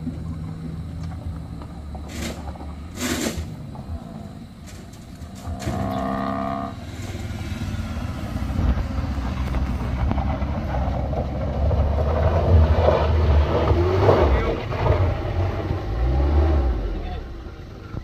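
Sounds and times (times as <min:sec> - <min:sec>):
pickup engine under load: 0:00.0 - 0:18.0.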